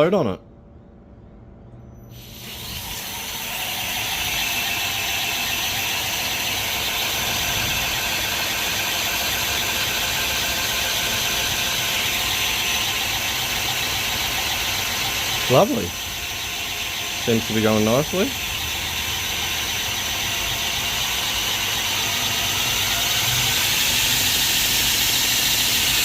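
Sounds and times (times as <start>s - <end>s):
abrasive belt grinding metal: 2.2s - 26.0s
belt grinder motor: 2.2s - 26.0s.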